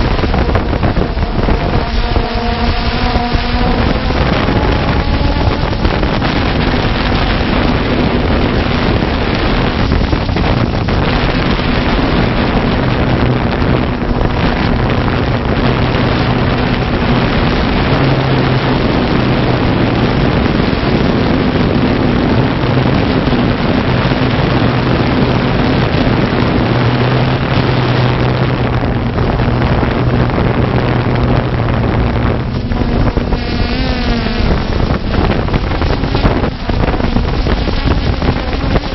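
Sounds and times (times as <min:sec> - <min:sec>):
drone propellers whirring: 0:00.0 - 0:38.9
wind rush on microphone: 0:00.0 - 0:38.9.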